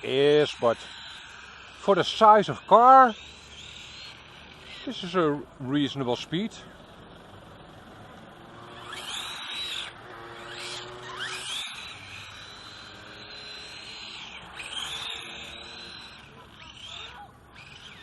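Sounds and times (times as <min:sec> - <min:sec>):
electric toy car motor whine: 0:00.0 - 0:18.0.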